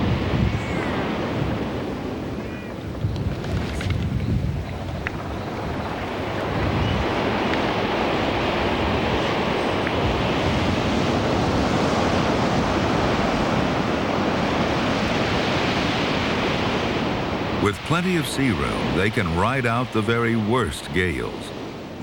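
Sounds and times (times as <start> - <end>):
heavy sea surf: 0.0 - 2.4, 5.6 - 22.0
strong wind: 0.0 - 17.8.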